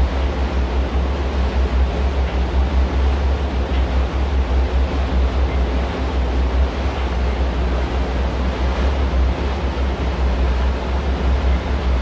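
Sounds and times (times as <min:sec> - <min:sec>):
boat engine low rumble: 0:00.0 - 0:12.0
rushing water and wind: 0:00.0 - 0:12.0.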